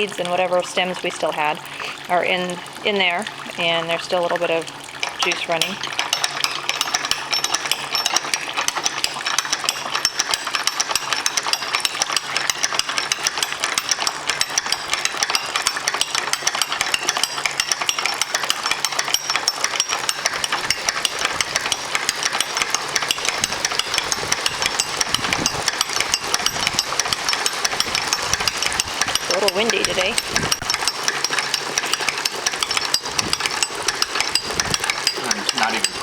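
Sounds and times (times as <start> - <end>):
ratchet clicking rapidly: 3.0 - 36.0.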